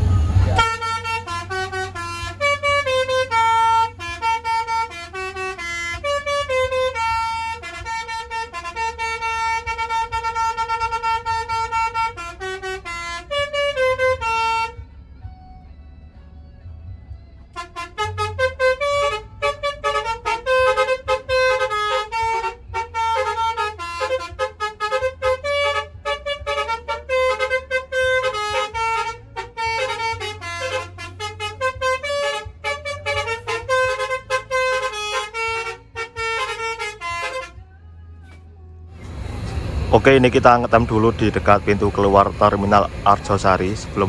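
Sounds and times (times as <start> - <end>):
melodic bus air horn: 0.0 - 15.7, 17.4 - 44.0
low engine hum: 0.0 - 44.0.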